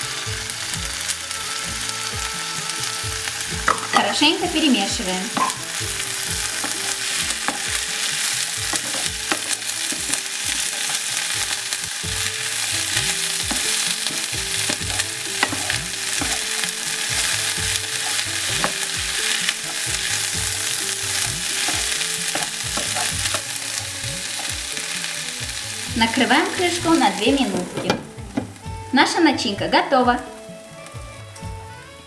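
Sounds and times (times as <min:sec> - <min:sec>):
spatula scraping and knocking a pan: 0:00.0 - 0:28.8
food sizzling in a frying pan: 0:00.0 - 0:32.0.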